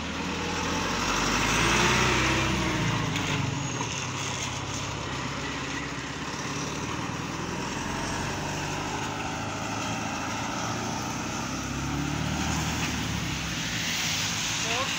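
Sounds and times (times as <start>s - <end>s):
fire engine diesel engine: 0.0s - 14.9s
tyres hissing on wet road: 0.0s - 14.9s.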